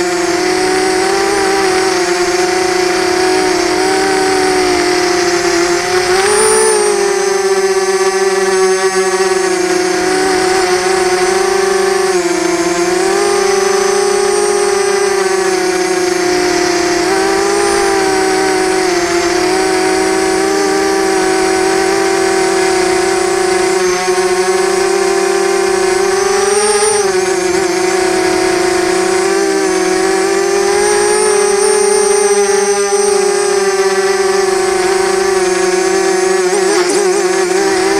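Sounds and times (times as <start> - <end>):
quadcopter buzzing hum: 0.0 - 37.9.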